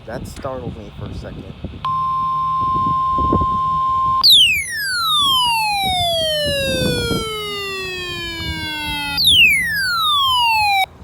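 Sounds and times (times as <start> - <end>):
siren-like tone gliding down: 1.9 - 10.9
steady test beep: 1.9 - 10.9.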